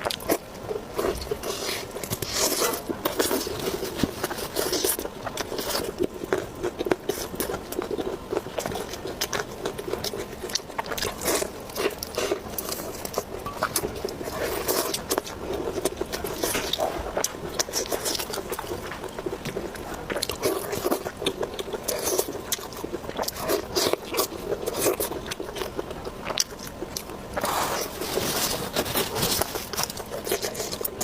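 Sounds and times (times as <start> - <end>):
person chewing crunchy food: 0.0 - 31.0.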